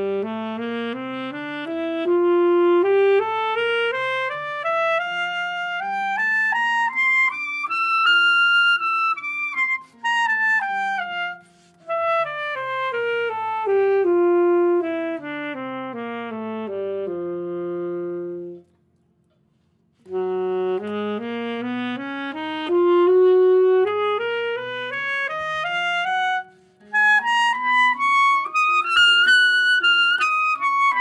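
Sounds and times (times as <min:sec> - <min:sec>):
alto saxophone playing a scale: 0:00.0 - 0:18.7, 0:20.0 - 0:31.0.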